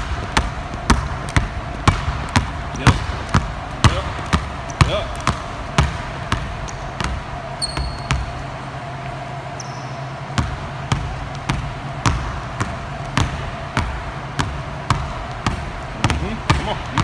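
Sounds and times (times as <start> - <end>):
basketballs dribbled on hardwood floor: 0.0 - 8.5, 10.3 - 17.0.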